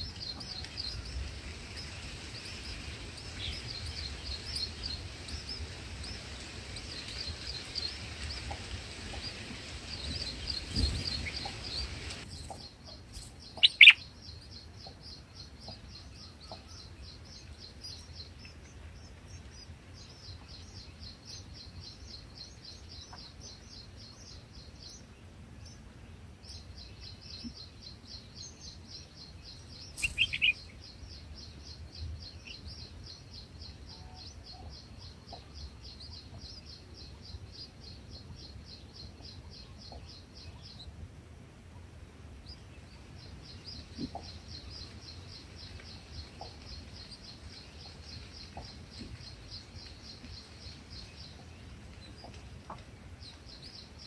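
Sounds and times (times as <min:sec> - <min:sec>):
bird chirping calls: 0:00.0 - 0:40.9, 0:42.4 - 0:54.0.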